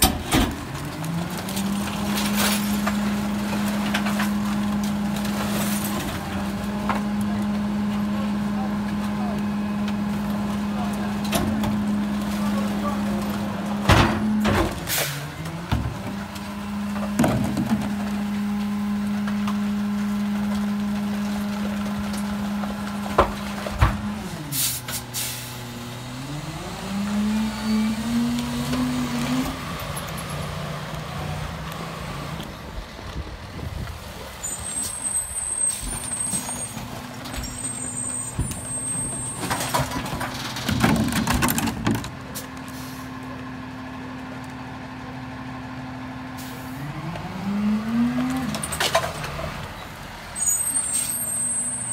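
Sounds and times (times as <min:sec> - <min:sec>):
diesel engine revving: 0:00.0 - 0:51.9.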